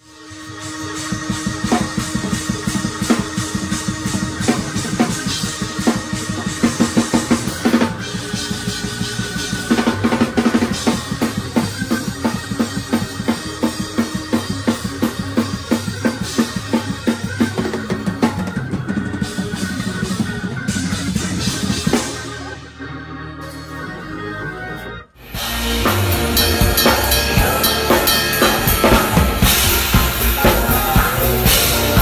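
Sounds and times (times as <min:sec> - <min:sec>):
music with drum kit beat: 0:00.0 - 0:22.8, 0:25.2 - 0:32.0.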